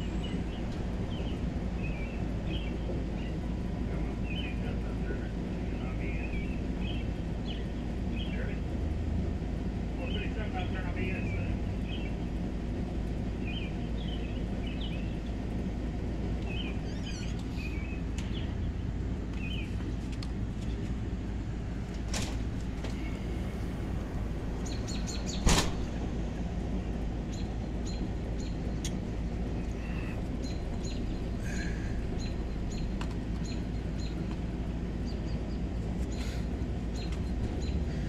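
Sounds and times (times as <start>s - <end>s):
birds chirping: 0.0s - 8.8s, 9.4s - 12.5s, 13.1s - 38.0s.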